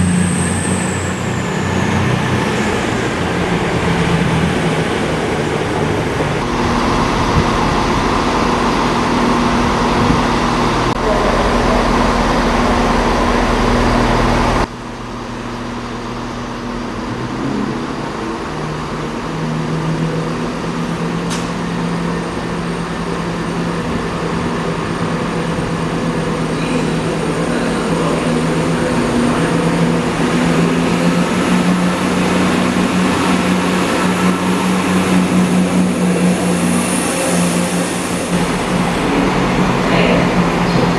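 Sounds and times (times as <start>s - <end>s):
diesel train drawing in: 0.0s - 40.9s
diesel train engines running: 0.0s - 40.9s
diesel train idling hum: 0.0s - 40.9s.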